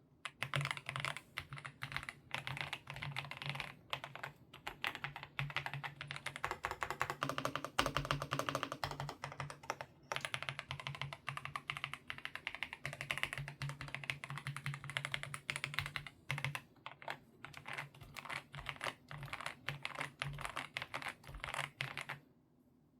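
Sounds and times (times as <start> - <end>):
fast typing on mechanical keyboard: 0.3 - 22.2.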